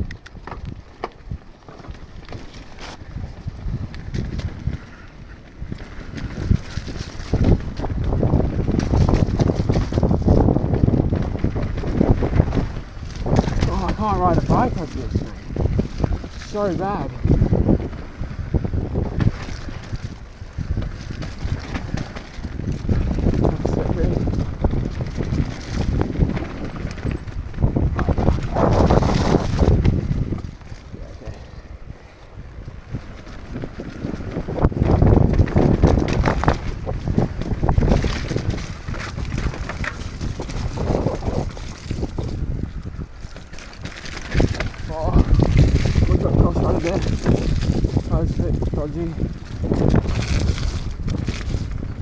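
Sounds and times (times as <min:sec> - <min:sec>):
bike knocks and rattles: 0:00.0 - 0:16.5, 0:17.2 - 0:31.0, 0:32.5 - 0:52.0
wind buffeting microphone: 0:00.0 - 0:52.0.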